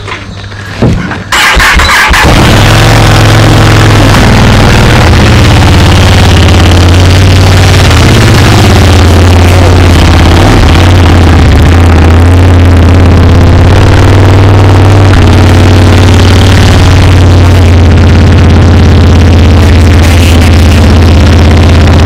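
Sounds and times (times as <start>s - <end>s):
motorcycle engine idling: 2.2s - 22.0s.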